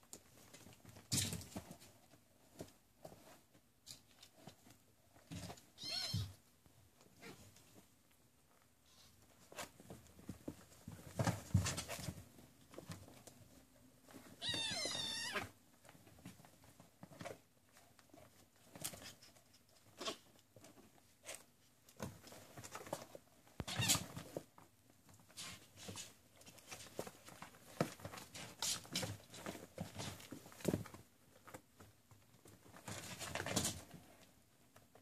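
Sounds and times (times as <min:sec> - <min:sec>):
kittens rustling and thumping: 0:00.0 - 0:35.0.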